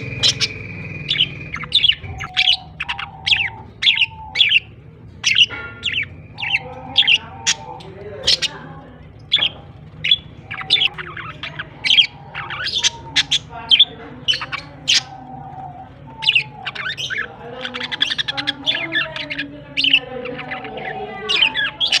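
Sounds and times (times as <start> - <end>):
budgerigars chirping and squawking: 0.0 - 22.0.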